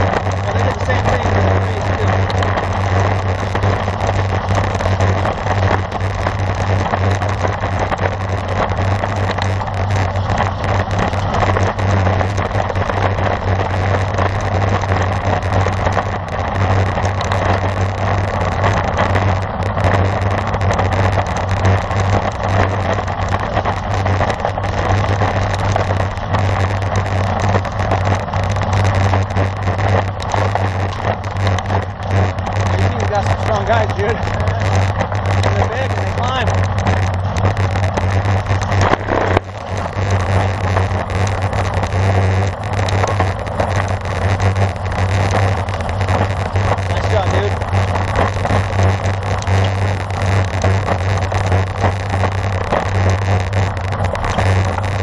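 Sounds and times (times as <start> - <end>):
wind roaring over microphone: 0.0 - 55.0.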